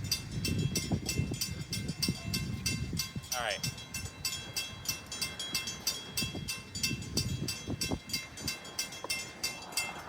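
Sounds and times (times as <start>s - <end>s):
crossing bell ringing: 0.0s - 10.0s.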